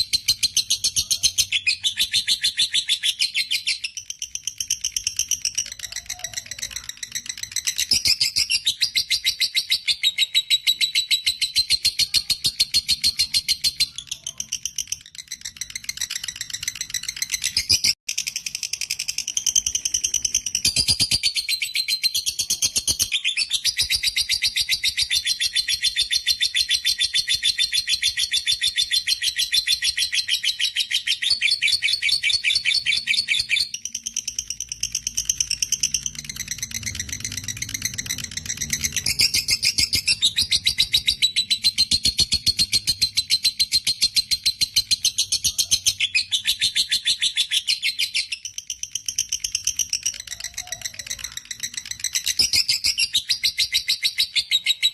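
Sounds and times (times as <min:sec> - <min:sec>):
lovebird chattering: 0:00.0 - 0:54.9.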